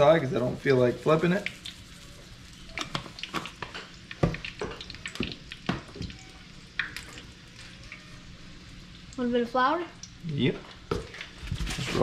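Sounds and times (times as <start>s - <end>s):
grease frying with pops: 0.0s - 12.0s.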